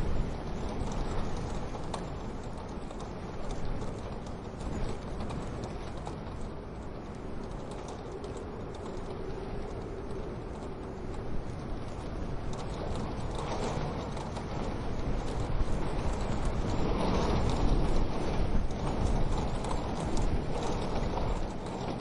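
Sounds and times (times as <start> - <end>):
low rushing background: 0.0 - 22.0.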